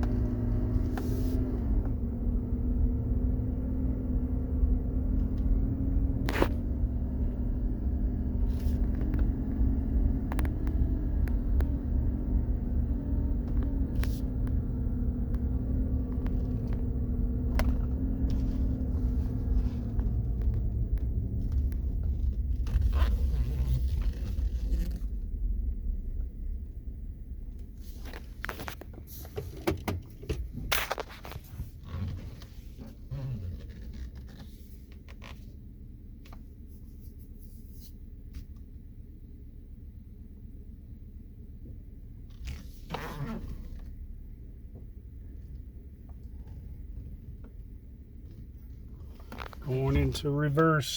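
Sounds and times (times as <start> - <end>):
low engine rumble: 0.0 - 50.9
truck undercarriage whine: 0.0 - 50.9.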